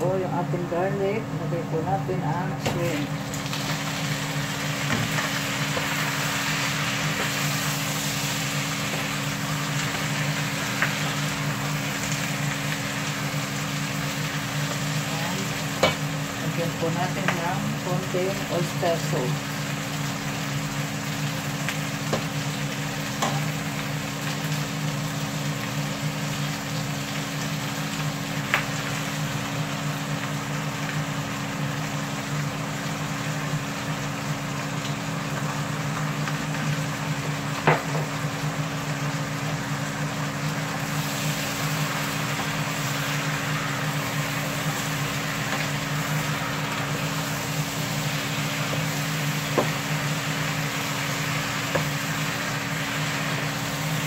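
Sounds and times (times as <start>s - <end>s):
shrimp sizzling in a frying pan: 2.4s - 54.0s.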